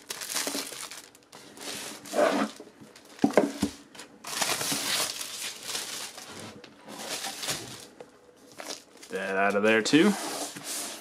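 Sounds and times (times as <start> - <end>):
plastic shrink wrap crinkling: 0.0 - 10.1.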